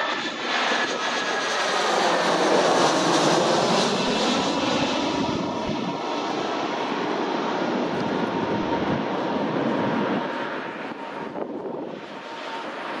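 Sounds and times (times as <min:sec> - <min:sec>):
faint jet engine whine: 0:00.0 - 0:13.0
jet passing low overhead: 0:00.0 - 0:13.0.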